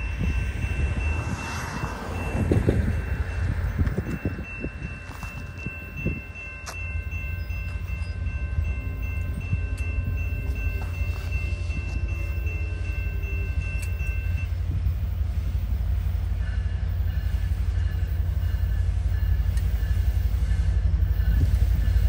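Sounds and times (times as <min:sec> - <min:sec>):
freight train rumble: 0:00.0 - 0:22.0
high-pitched ringing tones: 0:00.0 - 0:22.0.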